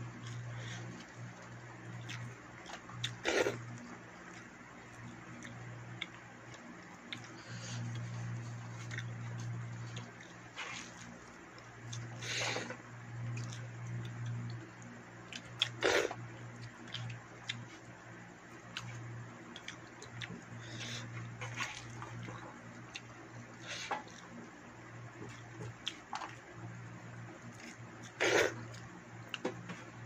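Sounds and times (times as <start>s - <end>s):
low steady hum: 0.0s - 30.0s
chewing and mouth smacks: 0.2s - 12.2s, 13.2s - 24.5s, 25.1s - 26.4s, 27.4s - 29.8s.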